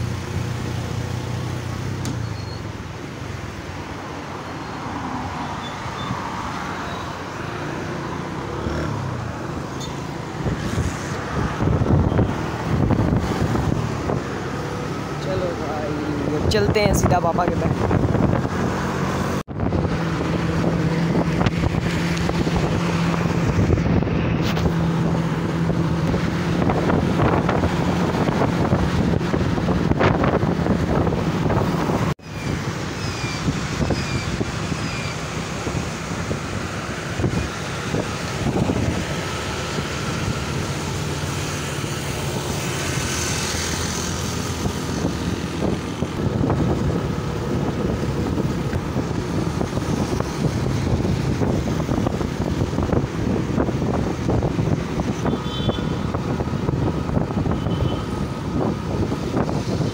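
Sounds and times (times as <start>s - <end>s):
road noise: 0.0s - 59.9s
vehicle engine hum: 0.0s - 59.9s
wind buffeting microphone: 8.9s - 15.0s, 16.1s - 59.9s.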